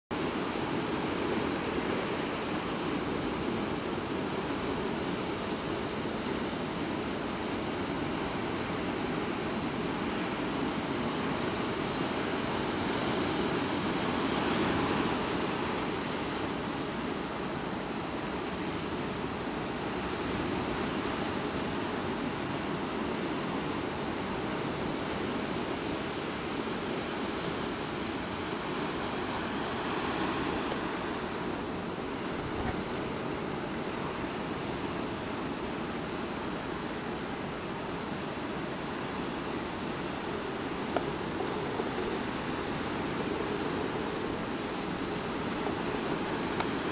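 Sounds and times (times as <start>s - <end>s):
surf breaking on rocky shore: 7.4s - 46.9s.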